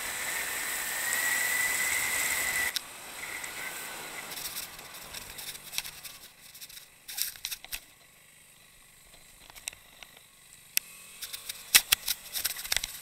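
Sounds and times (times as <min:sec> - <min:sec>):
motorcycle riding noise with whine: 0:00.0 - 0:13.0.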